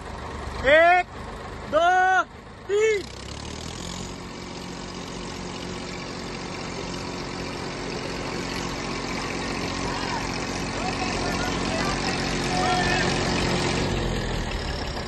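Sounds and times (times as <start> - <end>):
tractor diesel engines under load: 0.0 - 15.0.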